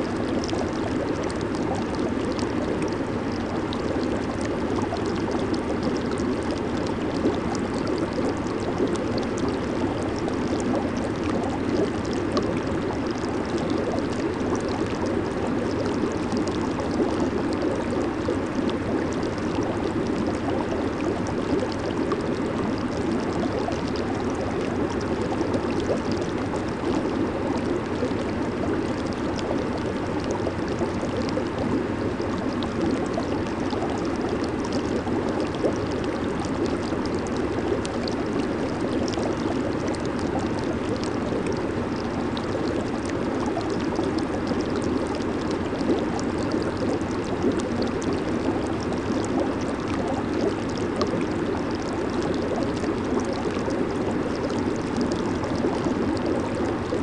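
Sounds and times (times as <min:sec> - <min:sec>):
hot tub water churning and bubbling: 0:00.0 - 0:57.0.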